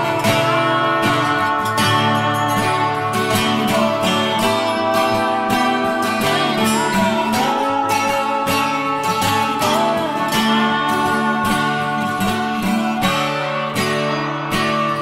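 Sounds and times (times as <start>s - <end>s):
slide guitar: 0.0s - 15.0s
strummed acoustic guitar: 0.0s - 15.0s.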